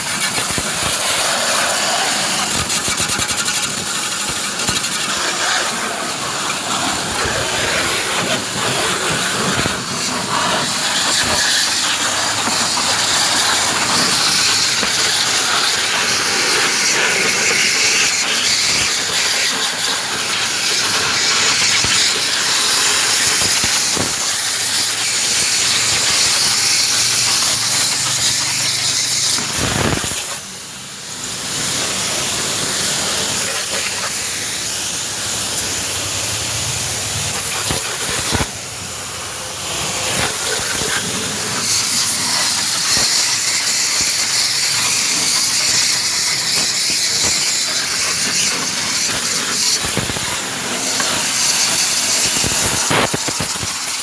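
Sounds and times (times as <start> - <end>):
loud steady hissing: 0.0 - 54.0.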